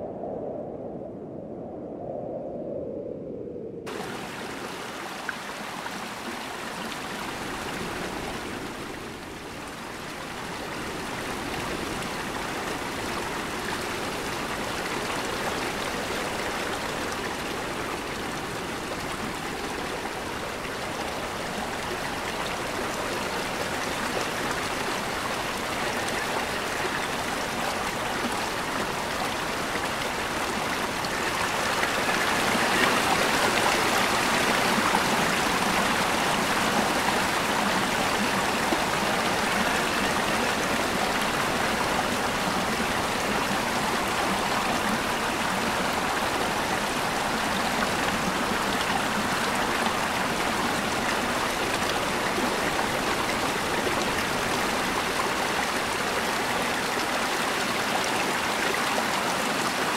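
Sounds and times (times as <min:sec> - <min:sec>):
flowing water rushing: 0:03.9 - 0:59.9.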